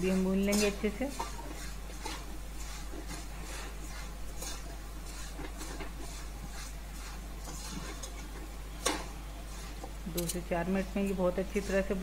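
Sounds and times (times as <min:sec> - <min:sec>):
metal spatula stirring puffed rice: 0:00.0 - 0:12.0.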